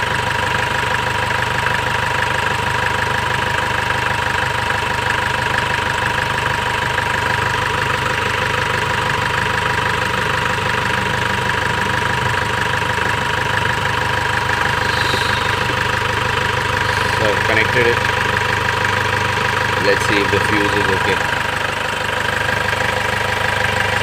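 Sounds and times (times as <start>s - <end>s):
car engine idling: 0.0s - 24.0s
high-pitched engine whine: 0.0s - 24.0s.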